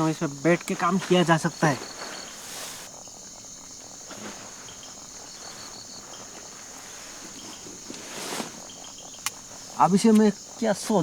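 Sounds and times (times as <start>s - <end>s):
crickets and insects droning: 0.0s - 11.0s
rapid insect chirps: 0.0s - 11.0s.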